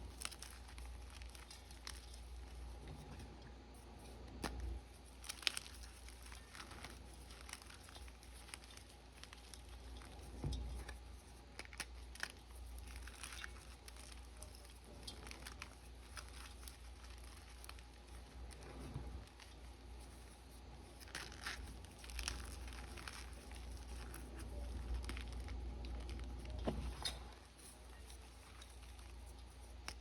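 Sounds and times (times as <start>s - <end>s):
chalk crunching and crackling: 0.0s - 30.0s.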